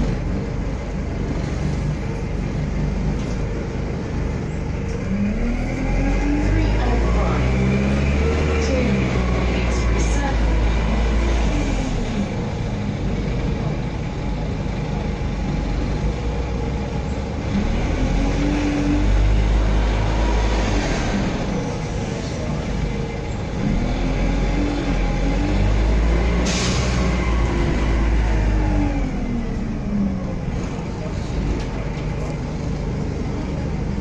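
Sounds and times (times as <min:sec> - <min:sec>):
bus engine rumbling: 0:00.0 - 0:34.0.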